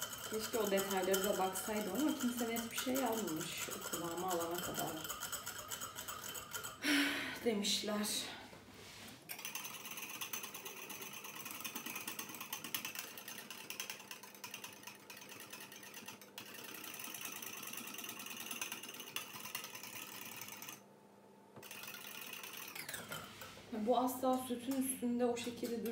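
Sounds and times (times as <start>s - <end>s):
whisk clattering against bowl: 0.0s - 6.8s, 9.3s - 20.8s, 21.6s - 25.9s.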